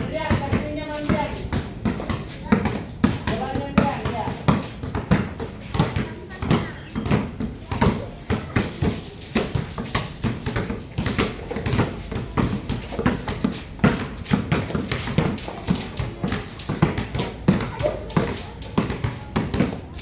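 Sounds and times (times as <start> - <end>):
basketballs bouncing on hard court: 0.0 - 20.0.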